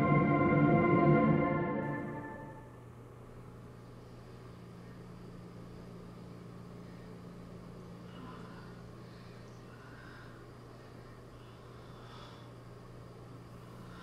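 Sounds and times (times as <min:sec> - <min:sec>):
low electrical hum with hiss: 0:00.0 - 0:14.0.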